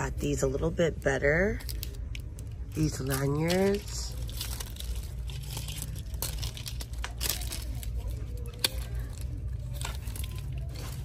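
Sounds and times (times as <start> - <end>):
rustling of lanyards and tags: 1.2 - 11.0.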